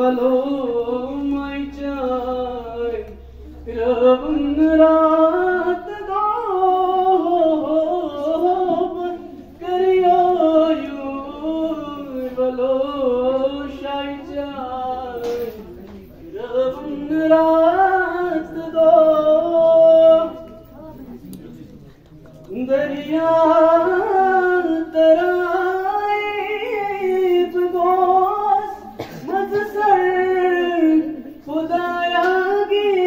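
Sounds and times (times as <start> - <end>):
boy singing into a microphone: 0.0 - 21.4, 22.3 - 33.0.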